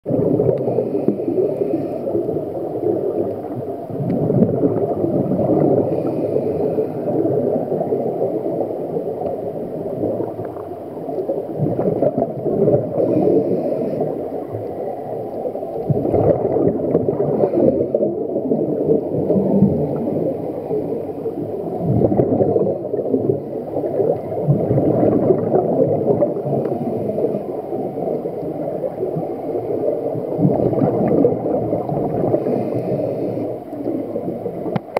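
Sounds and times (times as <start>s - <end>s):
bubbles gurgling underwater: 0.0s - 34.9s.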